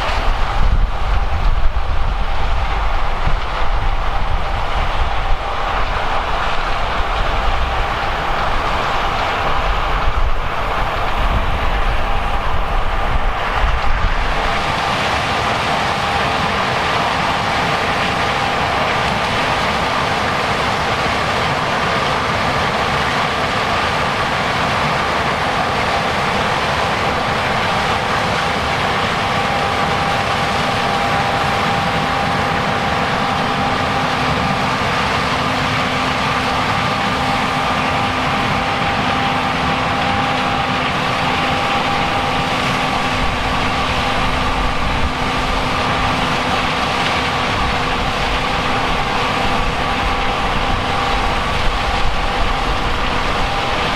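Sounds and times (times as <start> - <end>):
diesel machinery engine rumble: 0.0 - 53.9.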